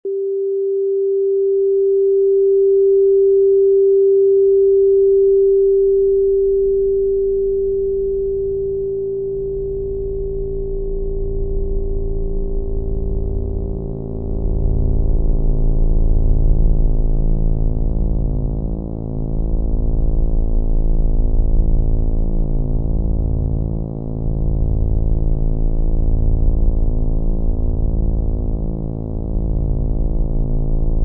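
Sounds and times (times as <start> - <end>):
electronic sine tone: 0.0 - 31.0
low throbbing drone: 0.4 - 31.0.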